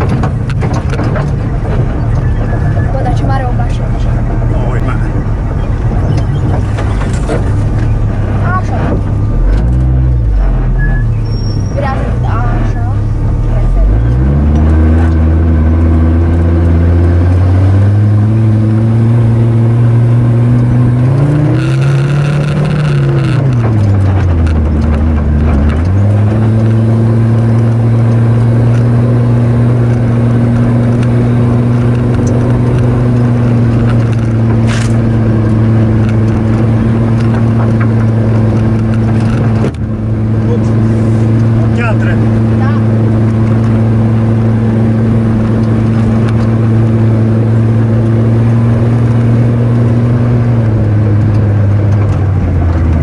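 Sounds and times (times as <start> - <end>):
off-road vehicle engine pulling: 0.0 - 53.0.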